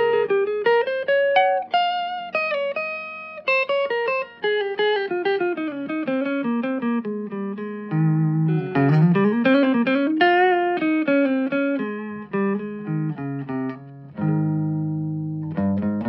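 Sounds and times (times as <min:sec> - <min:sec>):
electric guitar single-note lines: 0:00.0 - 0:16.0.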